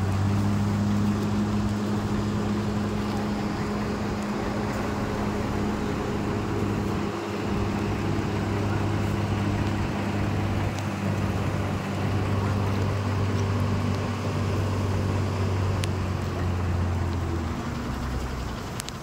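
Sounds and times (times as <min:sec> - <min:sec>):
floodwater rushing: 0:00.0 - 0:19.0
low motor hum: 0:00.0 - 0:19.0.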